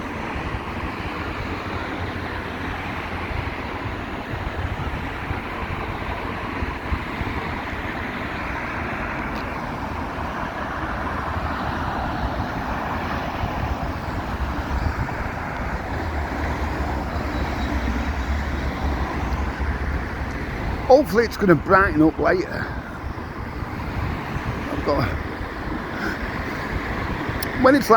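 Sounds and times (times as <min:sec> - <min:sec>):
traffic on wet roads: 0:00.0 - 0:27.9
wind rumble on microphone: 0:00.0 - 0:27.9.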